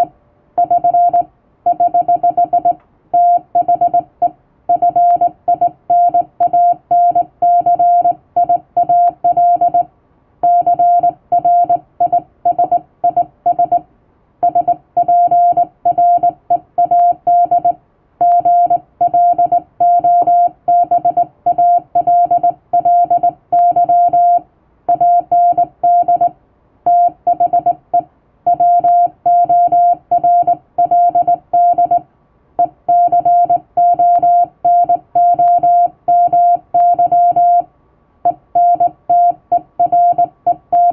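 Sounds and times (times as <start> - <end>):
morse code tone: 0.0 - 13.8, 14.4 - 26.3, 26.9 - 32.0, 32.6 - 37.7, 38.3 - 40.9.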